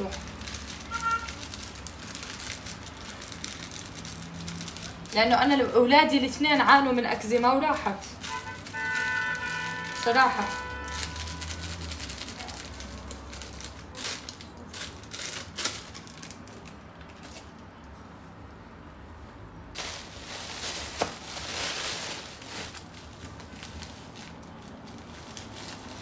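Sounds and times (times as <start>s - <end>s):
plastic bags crinkling: 0.0s - 5.8s, 6.6s - 17.8s, 19.8s - 26.0s.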